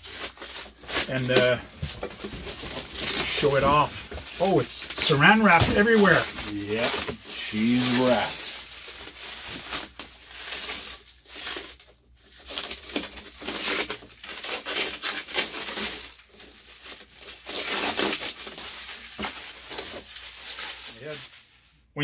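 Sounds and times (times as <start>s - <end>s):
plastic wrap crinkling and tearing: 0.0s - 21.9s.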